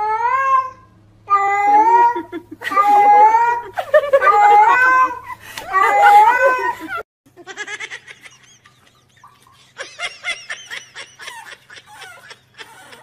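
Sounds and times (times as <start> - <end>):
soft laughter: 1.7 - 13.0.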